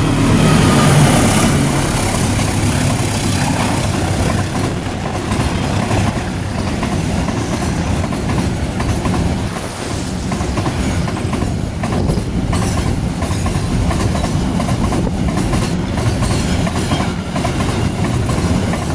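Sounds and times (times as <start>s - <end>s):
train wheels rushing on rail: 0.0s - 18.9s
wheels clicking over rail joints: 0.0s - 18.9s.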